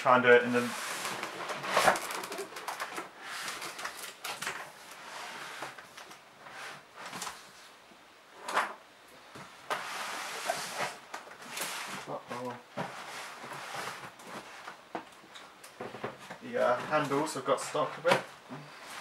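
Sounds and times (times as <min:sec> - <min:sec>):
cardboard rustling and scraping: 0:00.5 - 0:07.7, 0:09.4 - 0:15.0, 0:15.8 - 0:19.0.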